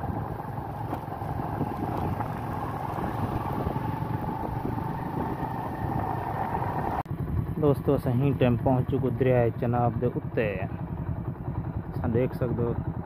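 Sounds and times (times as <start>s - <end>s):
constant hum: 0.0s - 13.0s
vehicle engine and road noise: 0.0s - 13.0s.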